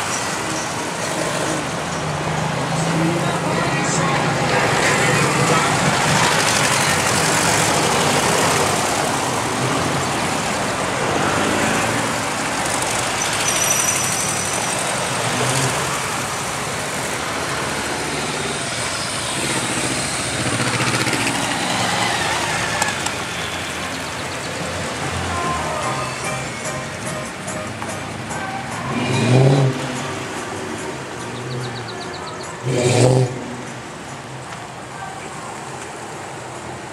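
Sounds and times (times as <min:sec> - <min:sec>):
motorcycles passing slowly: 0:00.0 - 0:36.9.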